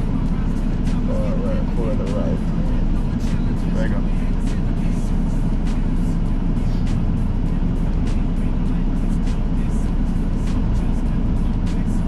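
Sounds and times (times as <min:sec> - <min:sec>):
diesel truck engine rumbling: 0:00.0 - 0:12.0
faint music: 0:00.0 - 0:12.0.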